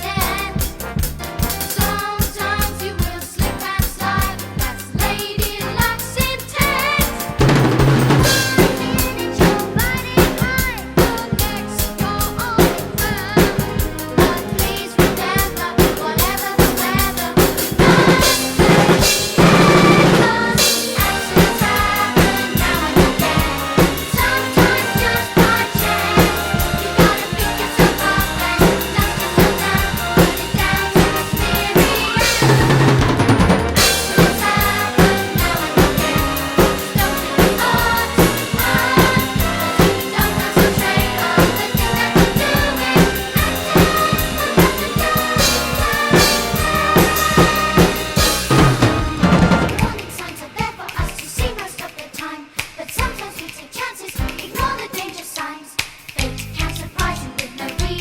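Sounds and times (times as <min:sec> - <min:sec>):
drum kit playing: 0:00.0 - 0:51.9
children's song backing track: 0:00.0 - 0:58.0.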